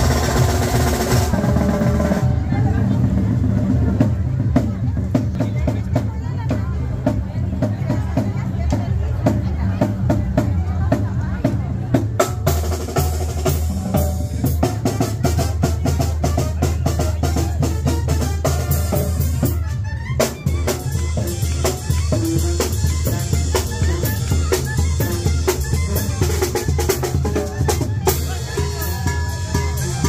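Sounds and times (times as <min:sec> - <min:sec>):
loud drum-driven live music: 0:00.0 - 0:30.0.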